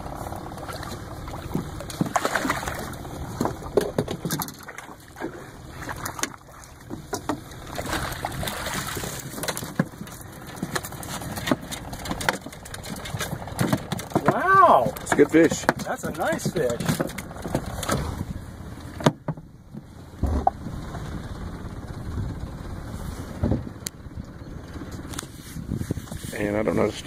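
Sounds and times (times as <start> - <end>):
water sloshing and splashing: 0.0 - 22.0
knocks and clatter on a boat: 0.0 - 27.0.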